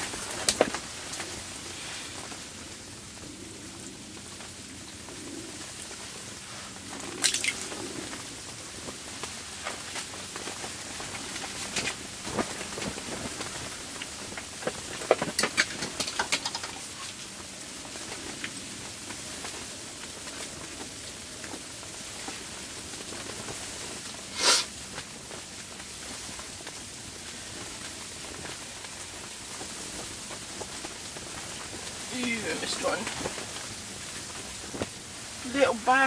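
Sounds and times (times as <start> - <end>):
snow pattering on microphone: 0.0 - 36.0.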